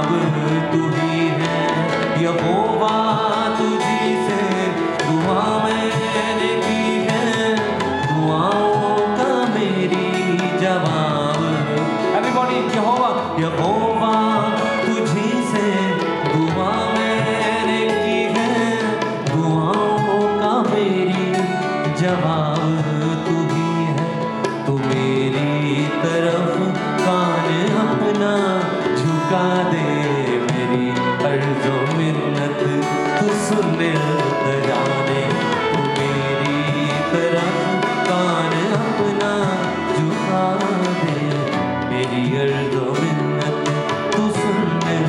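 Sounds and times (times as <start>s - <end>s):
tabla rhythm: 0.0s - 45.0s.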